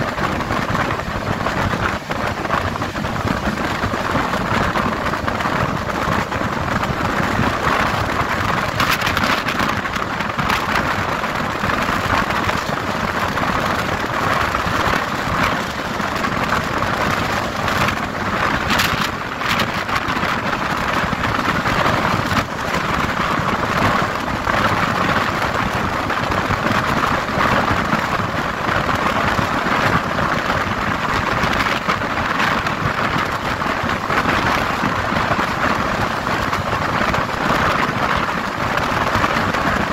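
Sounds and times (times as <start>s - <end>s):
rush of wind: 0.0s - 39.9s
train wheels rolling on rails: 0.0s - 39.9s.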